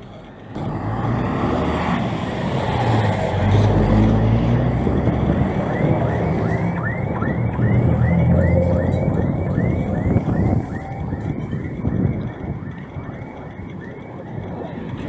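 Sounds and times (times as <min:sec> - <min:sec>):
vehicle engine running close: 0:00.0 - 0:15.0.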